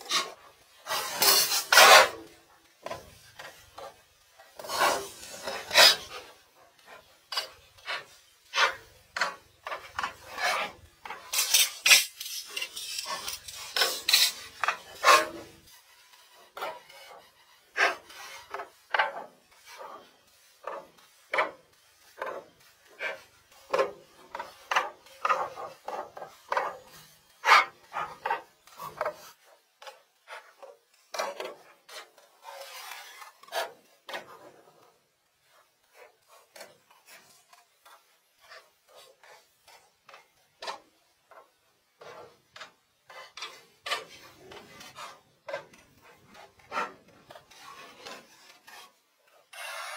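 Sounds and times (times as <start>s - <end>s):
wood scraping on wood: 0.0s - 49.9s.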